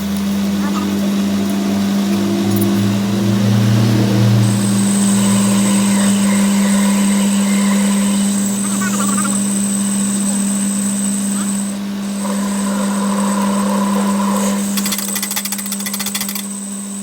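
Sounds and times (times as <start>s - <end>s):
high steady whine: 0.0s - 17.0s
motor humming: 0.0s - 17.0s.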